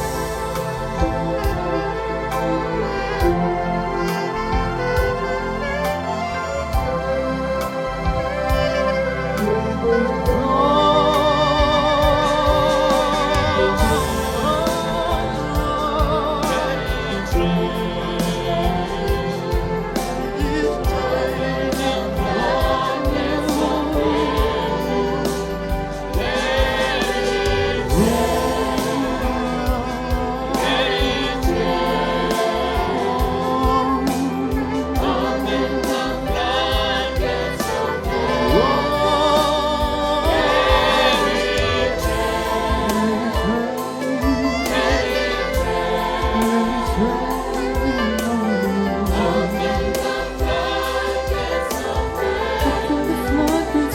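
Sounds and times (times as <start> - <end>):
band with bass and beat: 0.0 - 53.9
choir singing: 0.0 - 53.9.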